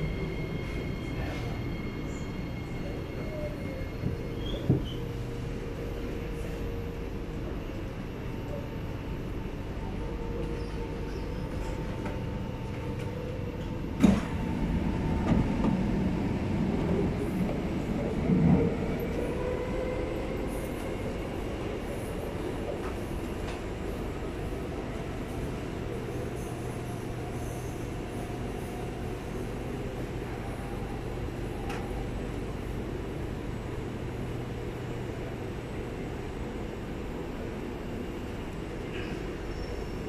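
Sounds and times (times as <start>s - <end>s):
metro train interior hum: 0.0s - 40.0s.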